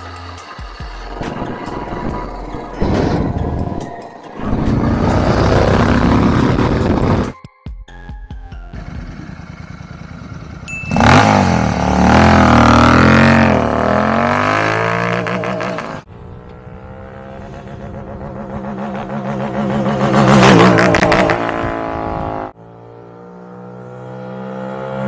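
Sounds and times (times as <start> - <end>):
motorcycle engine revving: 0.0 - 7.4, 8.8 - 25.0.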